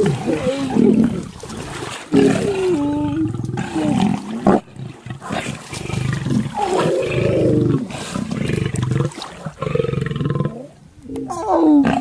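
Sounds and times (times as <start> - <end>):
lions growling and snarling: 0.0 - 10.8.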